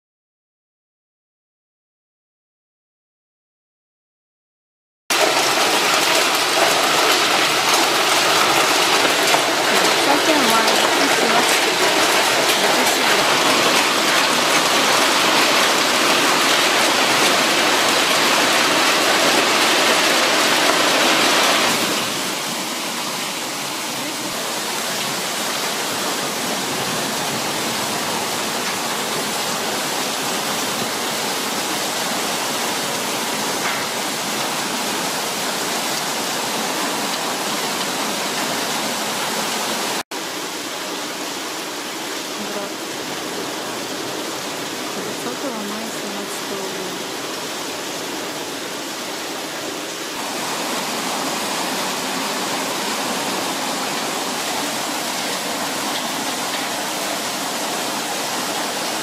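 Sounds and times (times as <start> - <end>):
hail and rain on paving: 5.1 - 59.0.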